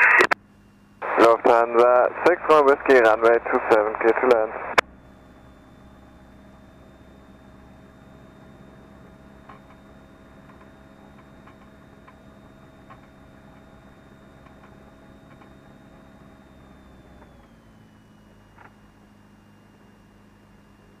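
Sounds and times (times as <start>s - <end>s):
aircraft engine humming: 0.0s - 21.0s.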